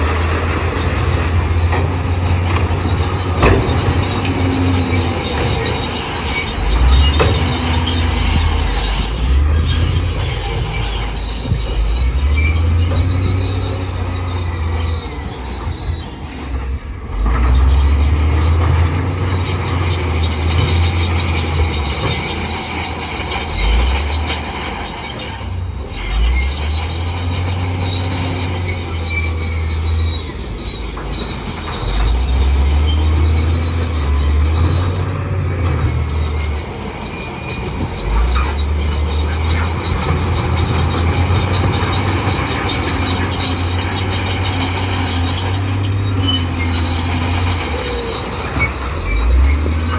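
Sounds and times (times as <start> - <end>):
bulldozer diesel engine: 0.0 - 49.9
high squeal from steel tracks: 0.0 - 49.9.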